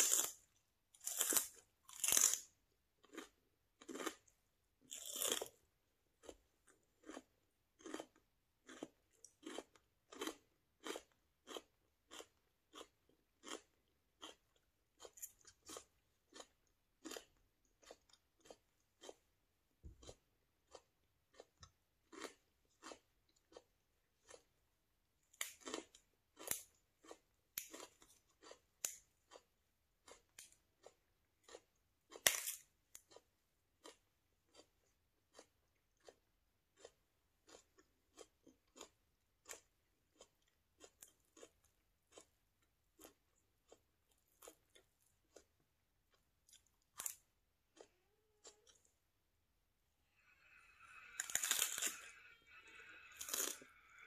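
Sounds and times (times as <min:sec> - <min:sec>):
person chewing crunchy vegetables: 0:00.0 - 0:49.2, 0:50.0 - 0:54.0.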